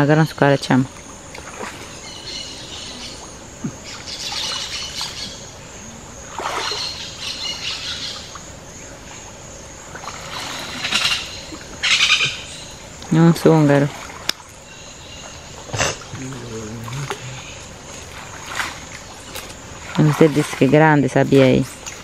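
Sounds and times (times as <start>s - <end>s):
birds calling: 0.0s - 22.0s
water splashing and sloshing: 0.0s - 22.0s.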